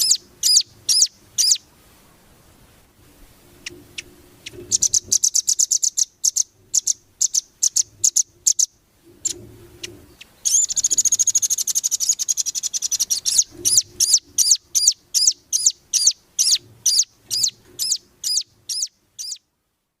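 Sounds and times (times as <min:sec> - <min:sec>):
nuthatch calling: 0:00.0 - 0:01.7, 0:03.6 - 0:19.5.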